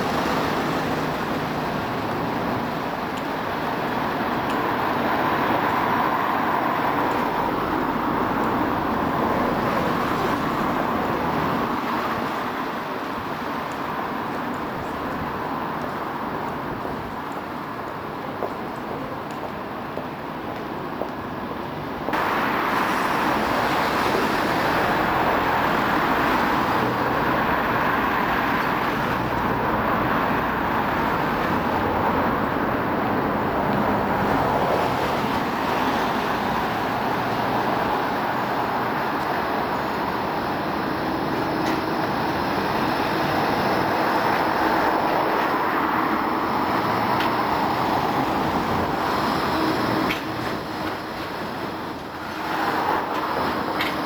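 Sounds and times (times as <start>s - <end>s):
electric tram passing: 0.0s - 54.0s
road traffic noise: 0.0s - 54.0s.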